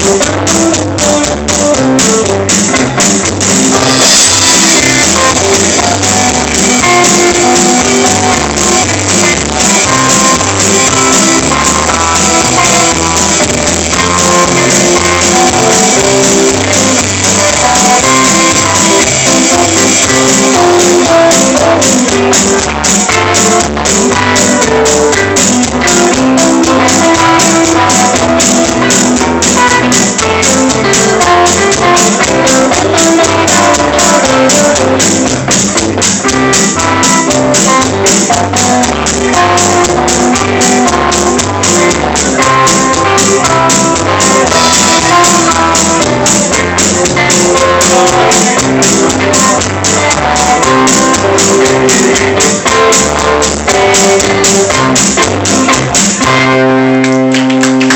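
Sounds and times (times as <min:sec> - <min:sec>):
drum kit beat: 0:00.0 - 0:57.9
electric bass: 0:00.0 - 0:57.9
electric guitar: 0:00.0 - 0:57.9.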